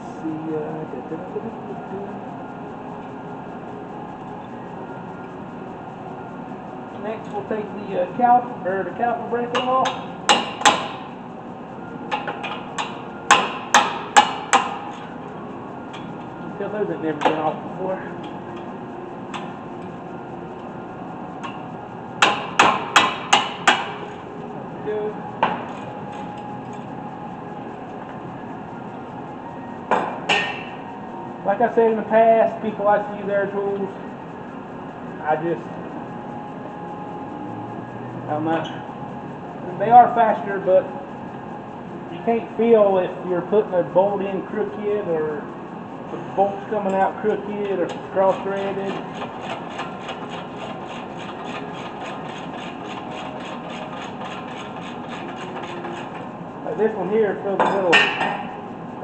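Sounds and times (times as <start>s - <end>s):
steady background hum: 0.0s - 59.0s.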